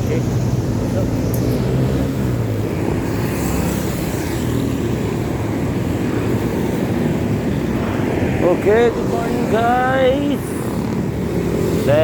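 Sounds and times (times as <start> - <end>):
passing engine: 0.0 - 12.0
road traffic noise: 0.0 - 12.0
wind rumbling on microphone: 0.0 - 12.0.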